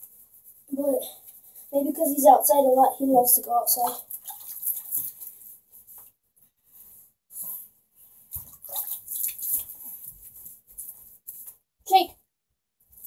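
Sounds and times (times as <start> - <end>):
hands rubbing wet fur: 0.0 - 11.6.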